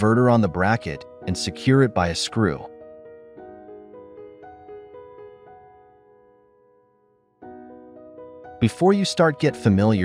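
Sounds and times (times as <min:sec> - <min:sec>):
soft piano background music: 0:00.0 - 0:10.0.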